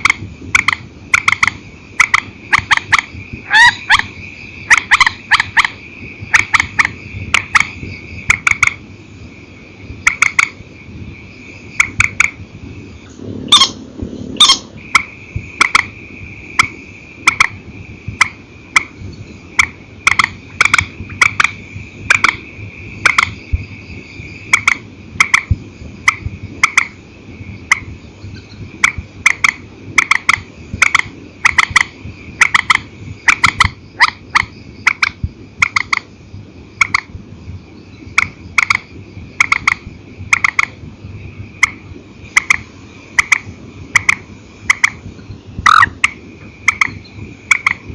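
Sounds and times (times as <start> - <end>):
high-pitched whine: 0.0 - 47.9.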